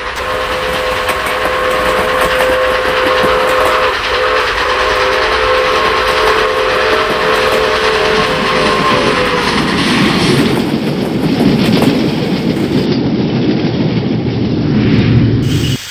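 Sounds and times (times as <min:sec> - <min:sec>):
train horn chord: 0:00.0 - 0:12.9
train running: 0:00.0 - 0:14.6, 0:15.4 - 0:15.9.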